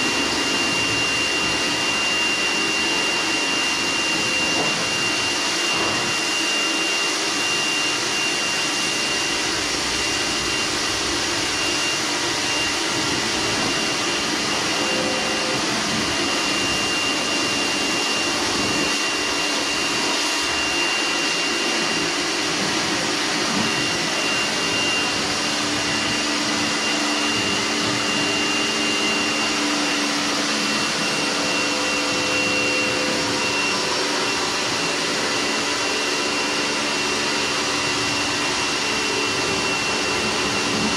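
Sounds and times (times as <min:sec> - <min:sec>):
pressure washer motor whining: 0:00.0 - 0:40.9.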